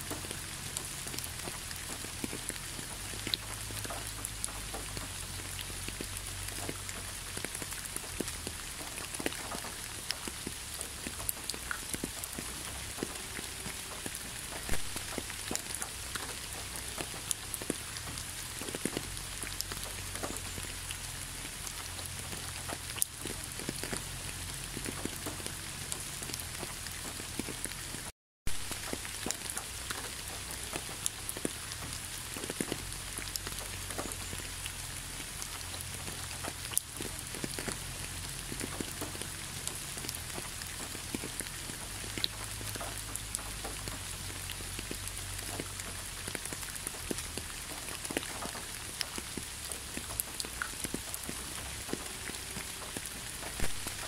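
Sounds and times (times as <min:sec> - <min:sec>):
rain on asphalt road: 0:00.0 - 0:54.0.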